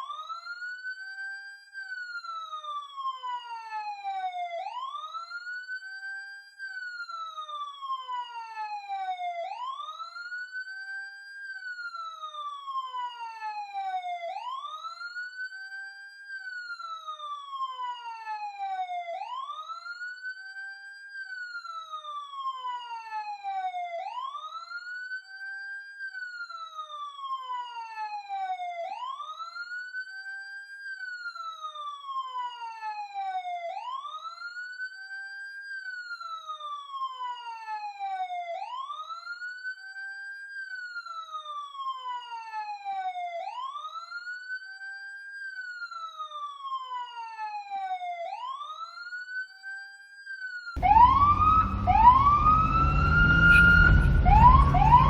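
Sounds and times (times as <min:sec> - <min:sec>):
police siren wailing: 0:00.0 - 0:55.0.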